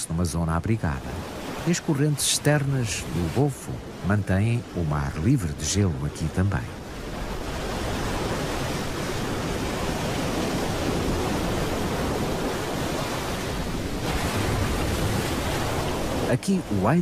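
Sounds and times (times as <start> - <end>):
waves breaking: 0.0 - 17.0.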